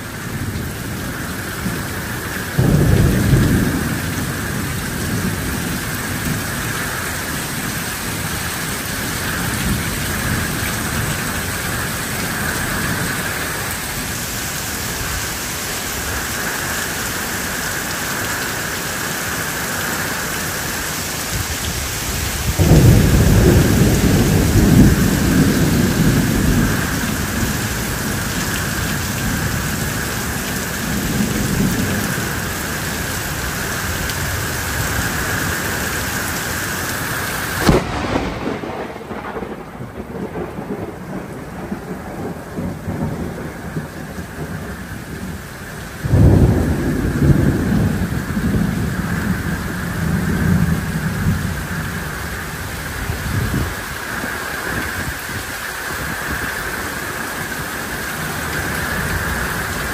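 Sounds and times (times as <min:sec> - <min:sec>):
rumble of thunder: 0:00.0 - 0:15.2, 0:21.4 - 0:36.1, 0:37.0 - 0:59.9
steady downpour of rain: 0:00.0 - 0:59.9.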